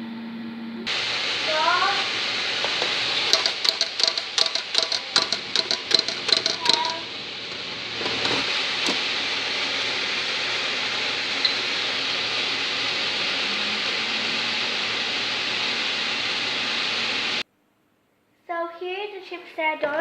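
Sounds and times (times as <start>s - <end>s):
air fryer fan hissing: 0.9s - 17.4s
chips crackling and sizzling: 0.9s - 17.4s.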